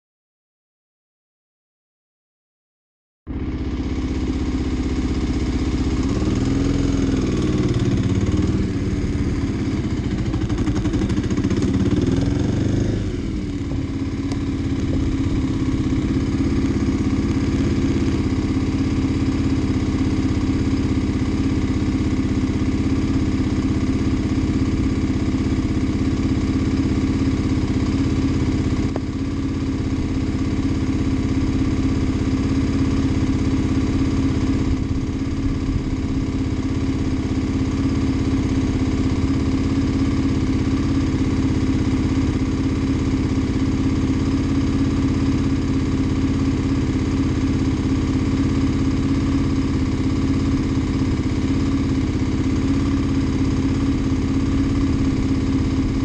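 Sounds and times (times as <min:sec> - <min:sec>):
motorcycle engine revving and idling: 0:03.3 - 0:56.0.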